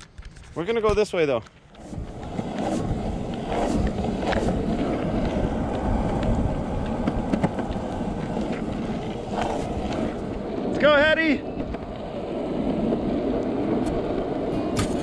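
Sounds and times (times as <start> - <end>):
wheels rolling on asphalt: 0.0 - 15.0.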